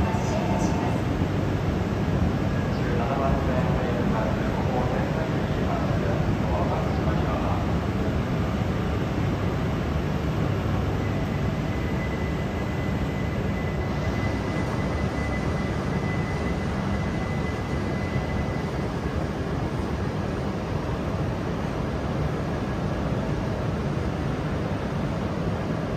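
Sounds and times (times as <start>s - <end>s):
train equipment hum and hiss: 0.0s - 25.9s.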